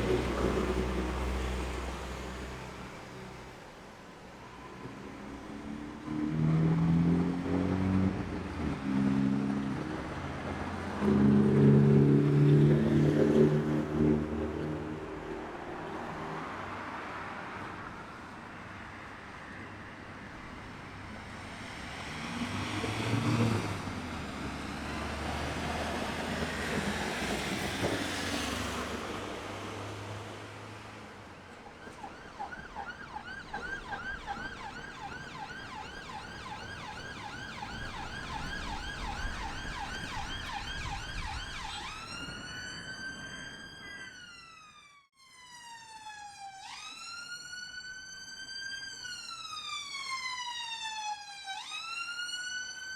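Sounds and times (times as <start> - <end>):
road traffic passing: 0.0 - 44.4
emergency vehicle siren: 0.0 - 52.9.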